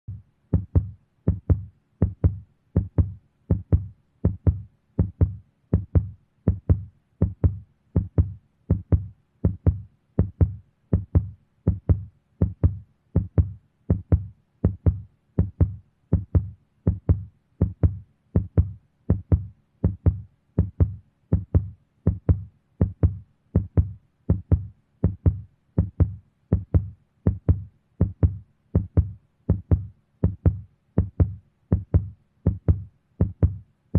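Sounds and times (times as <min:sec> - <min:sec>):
heartbeat double thumps: 0:00.1 - 0:33.6.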